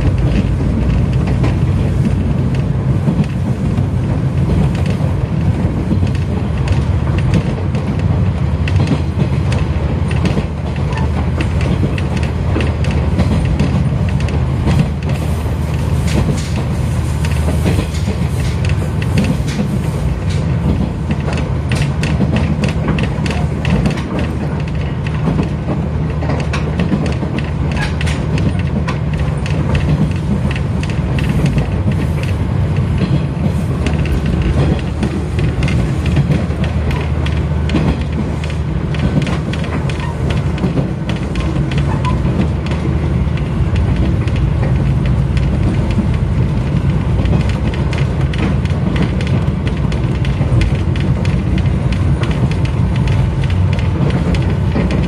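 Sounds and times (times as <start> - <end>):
train rumble inside carriage: 0.0 - 55.0
wheels clicking on rails: 0.0 - 55.0.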